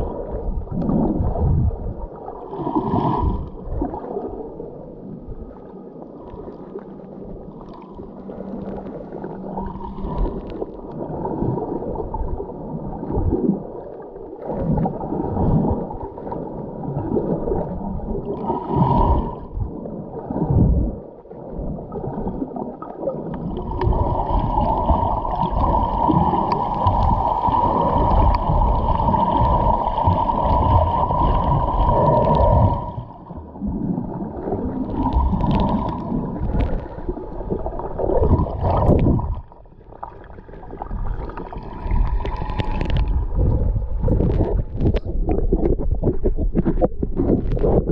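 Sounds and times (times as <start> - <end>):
underwater bubbles gurgling: 0.0 - 47.9.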